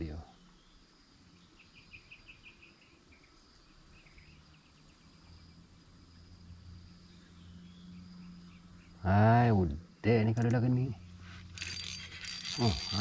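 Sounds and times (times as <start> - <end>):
insect chirps: 0.0 - 13.0
insects buzzing: 0.0 - 13.0.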